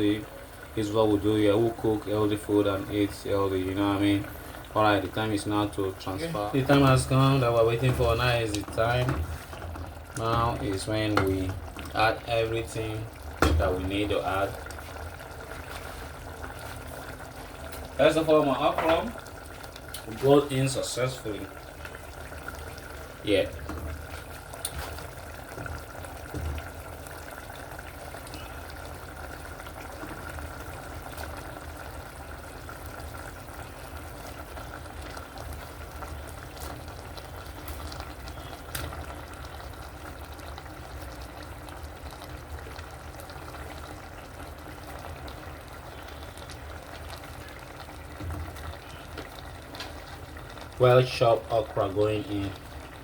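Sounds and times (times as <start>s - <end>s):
soup boiling and bubbling: 0.0s - 53.0s.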